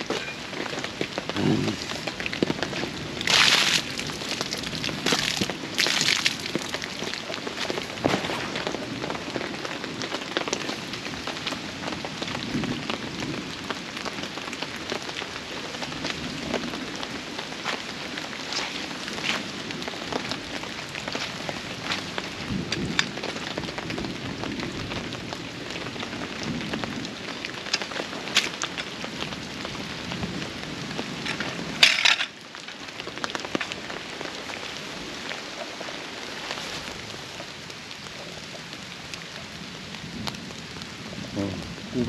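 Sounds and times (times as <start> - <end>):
rain pattering: 0.0 - 42.0.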